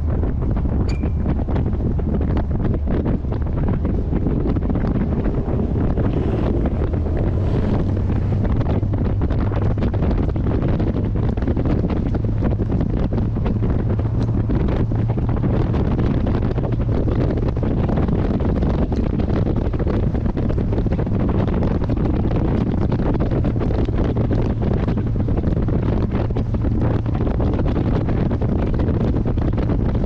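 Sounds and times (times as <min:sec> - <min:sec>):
car engine droning at cruise: 0:00.0 - 0:30.0
wind buffeting microphone: 0:00.0 - 0:30.0.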